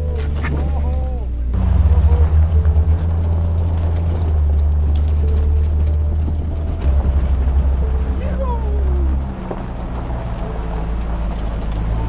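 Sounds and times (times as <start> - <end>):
off-road vehicle engine rumble: 0.0 - 12.0
rapid throbbing: 1.3 - 11.6.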